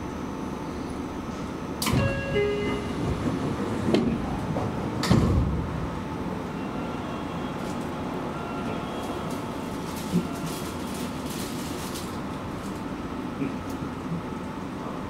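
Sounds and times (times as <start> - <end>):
train rumble: 0.9 - 15.0.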